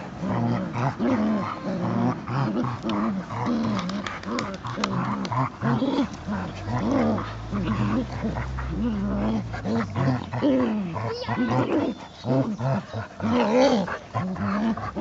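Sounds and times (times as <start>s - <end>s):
puppy play-growling: 0.0s - 15.0s.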